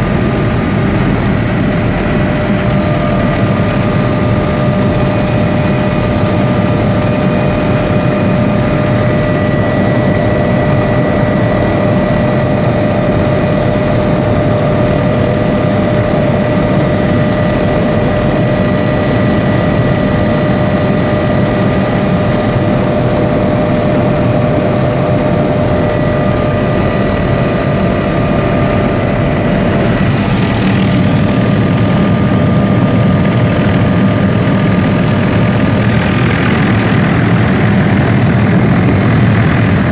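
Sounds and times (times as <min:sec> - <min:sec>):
helicopter engine and rotor drone: 0:00.0 - 0:39.9
high-pitched whining tones: 0:00.0 - 0:39.9.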